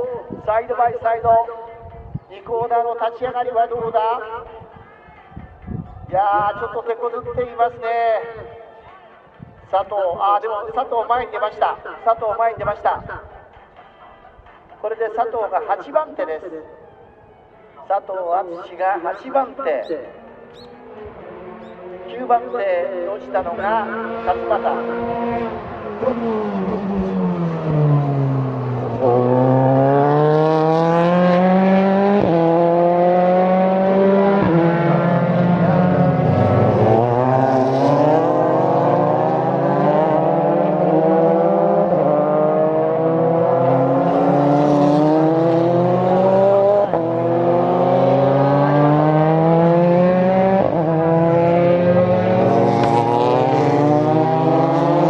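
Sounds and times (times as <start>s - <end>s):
race car engines: 0.0s - 5.2s, 6.1s - 55.0s.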